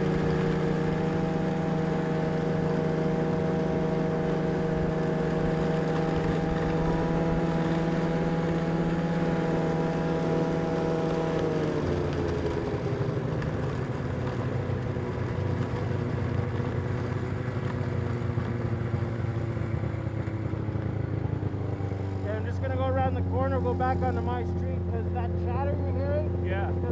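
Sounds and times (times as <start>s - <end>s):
snowmobile engine running: 0.0s - 26.9s.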